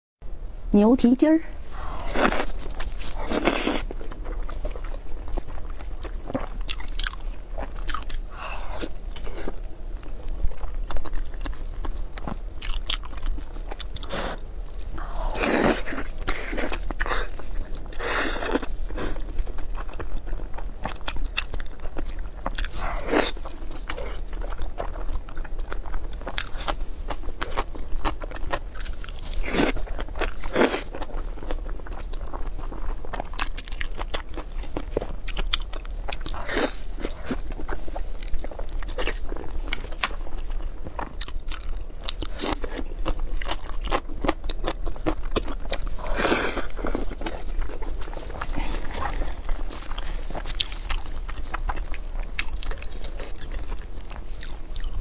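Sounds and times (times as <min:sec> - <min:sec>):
close wet chewing and biting: 0:01.8 - 0:55.0.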